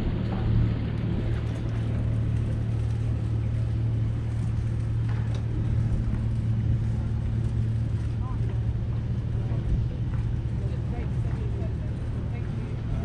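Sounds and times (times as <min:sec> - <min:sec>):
diesel engines droning: 0:00.0 - 0:13.0.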